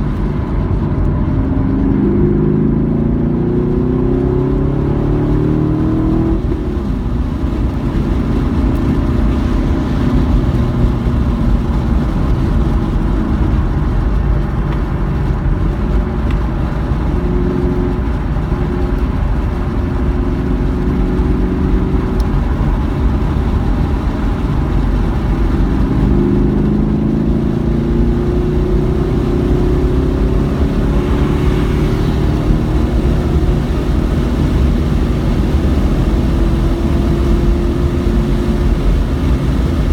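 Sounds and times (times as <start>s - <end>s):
car engine revving hard: 0.0s - 39.9s
road and wind noise: 0.0s - 39.9s.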